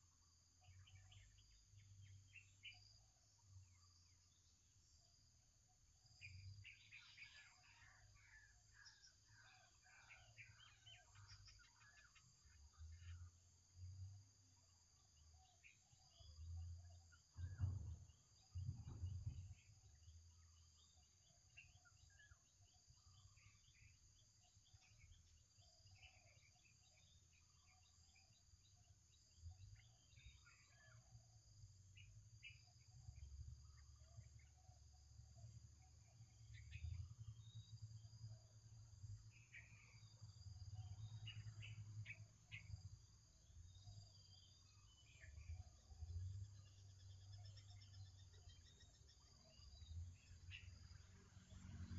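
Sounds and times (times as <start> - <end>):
high insect hum: 0.0 - 51.9.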